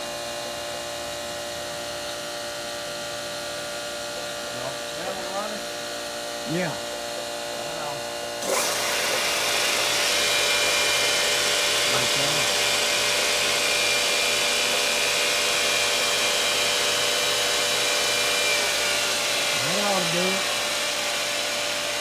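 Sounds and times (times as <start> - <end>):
grinder hissing and whining: 2.2 - 22.0.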